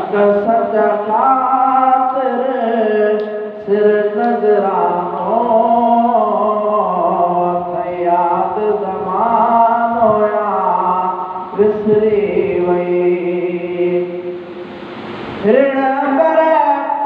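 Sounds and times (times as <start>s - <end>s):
man singing into a microphone: 0.0s - 14.4s, 15.4s - 17.0s.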